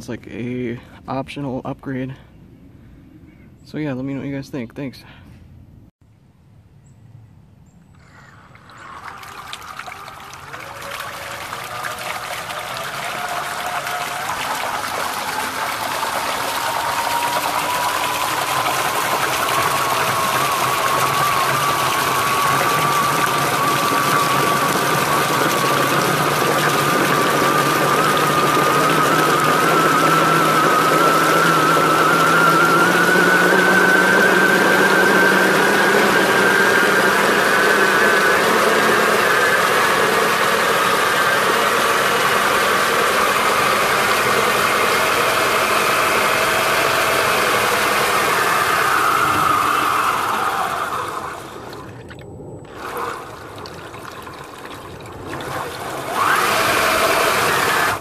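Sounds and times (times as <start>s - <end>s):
impeller churning water: 8.1s - 58.0s
electric motor whining: 9.3s - 53.7s, 55.2s - 58.0s.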